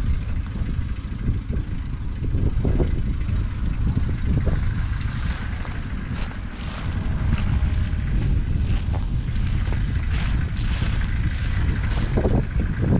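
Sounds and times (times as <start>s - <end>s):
diesel engine running: 0.0s - 12.9s
wind buffeting microphone: 0.0s - 12.9s.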